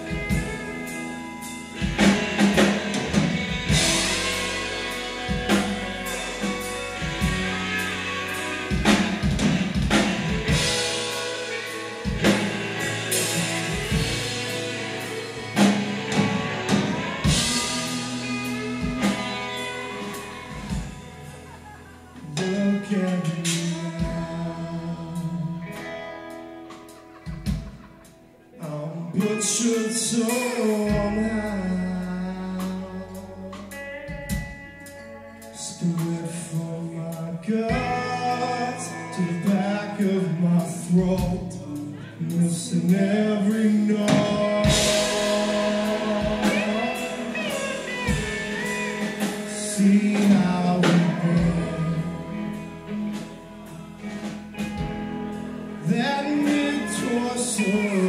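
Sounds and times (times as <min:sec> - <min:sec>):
bass: 0:00.0 - 0:58.0
drums: 0:00.0 - 0:58.0
man singing: 0:01.9 - 0:26.4, 0:28.5 - 0:33.8, 0:35.4 - 0:54.9, 0:55.7 - 0:58.0.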